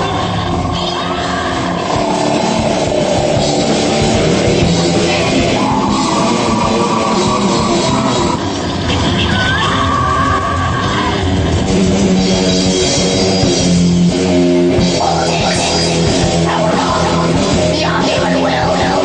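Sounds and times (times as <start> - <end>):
distorted electric guitar chords: 0.0 - 19.0
drum kit: 0.0 - 19.0.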